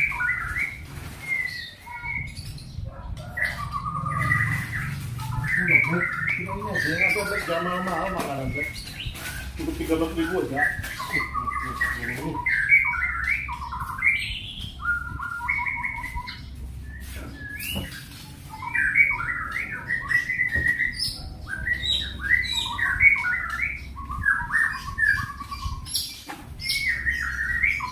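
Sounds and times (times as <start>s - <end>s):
songbird chirping and whistling: 0.0s - 27.9s.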